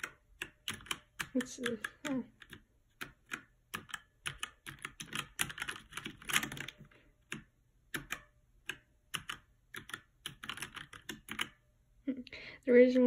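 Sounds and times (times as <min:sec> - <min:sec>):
mechanical keyboard keystroke clicks: 0:00.0 - 0:11.6.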